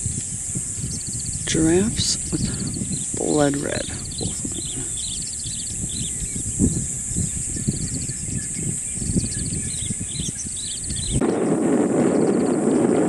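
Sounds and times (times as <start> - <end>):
rapid insect trills: 0.0 - 11.2
low rumble and thumps: 0.0 - 11.4
high insect drone: 0.0 - 13.0
bird chirps: 0.1 - 11.2.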